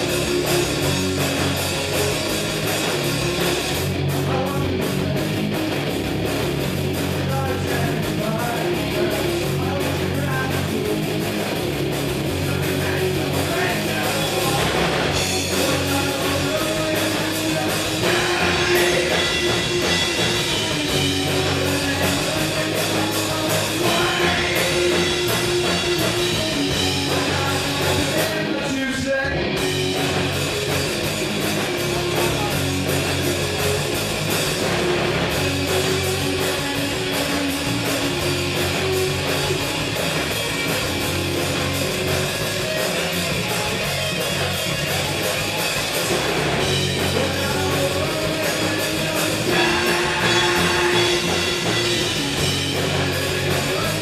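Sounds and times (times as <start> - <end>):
distorted electric guitar: 0.0 - 54.0
drum kit: 0.0 - 54.0
electric bass: 0.0 - 54.0
live hard rock band: 0.0 - 54.0.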